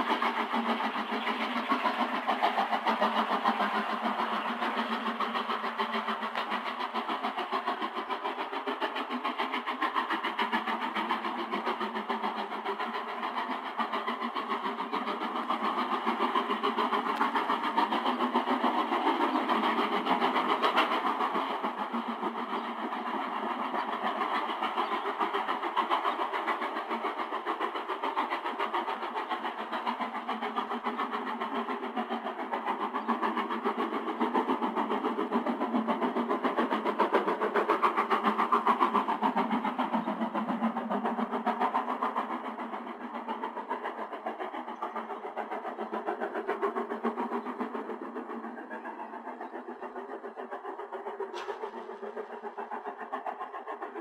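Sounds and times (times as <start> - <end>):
steam locomotive exhaust beat: 0.0 - 54.0.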